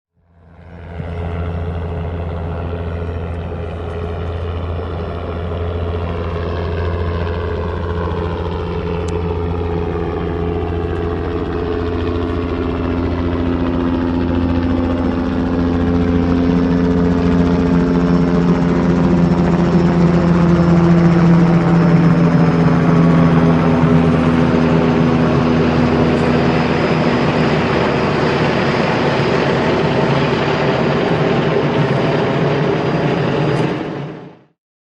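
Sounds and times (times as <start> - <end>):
helicopter flying: 0.2 - 34.6.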